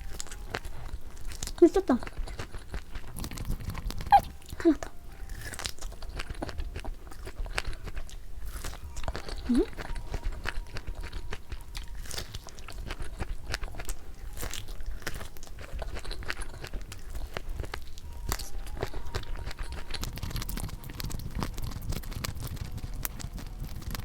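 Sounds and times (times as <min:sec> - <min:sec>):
crunchy chewing of fried chicken: 0:00.0 - 0:24.0.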